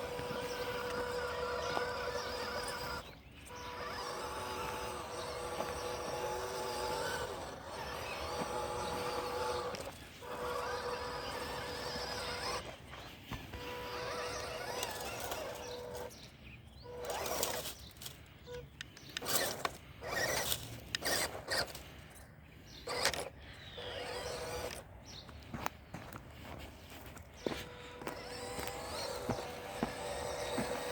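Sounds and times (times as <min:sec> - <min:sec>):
electric motor whining: 0:00.0 - 0:24.9, 0:26.5 - 0:30.9.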